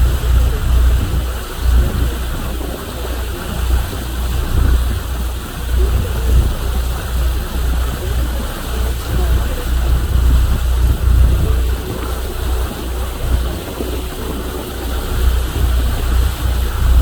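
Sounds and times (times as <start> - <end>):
boat engine: 0.0 - 17.0
rushing water: 0.0 - 17.0
wind buffeting microphone: 0.0 - 17.0.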